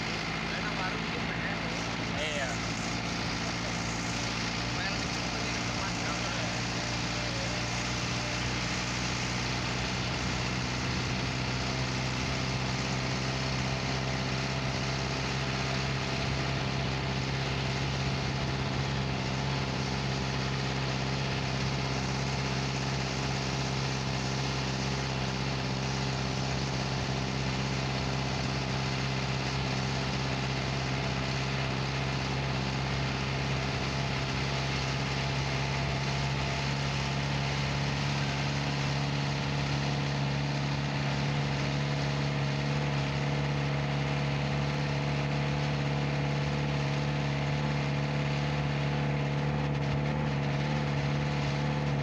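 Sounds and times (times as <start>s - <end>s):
car engine running: 0.0s - 52.0s
road and wind noise: 0.0s - 52.0s.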